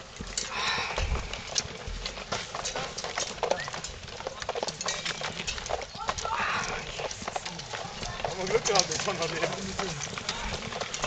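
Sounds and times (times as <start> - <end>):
footsteps on dirt path: 0.0 - 11.0.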